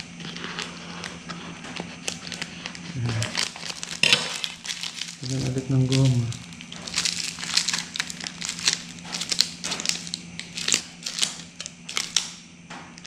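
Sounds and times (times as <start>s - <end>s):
plastic crinkling: 0.0s - 12.4s.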